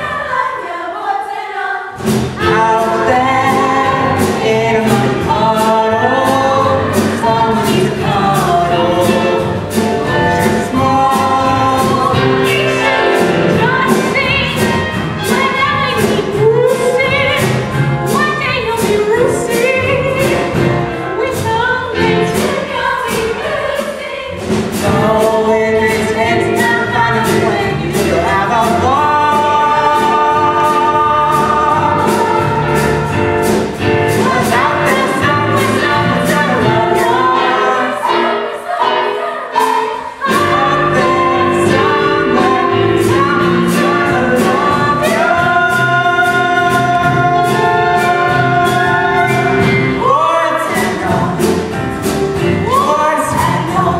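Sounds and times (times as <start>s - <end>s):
chorus singing: 0.0s - 53.9s
band accompaniment: 1.9s - 53.9s.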